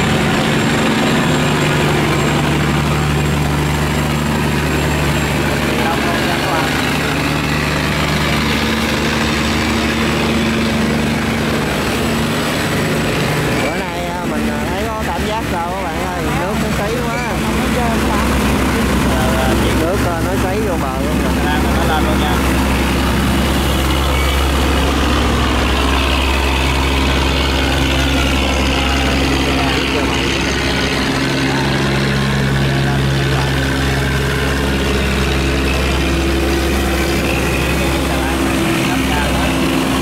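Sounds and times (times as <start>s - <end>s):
boat engine humming: 0.0s - 40.0s
churned water rushing: 0.0s - 40.0s.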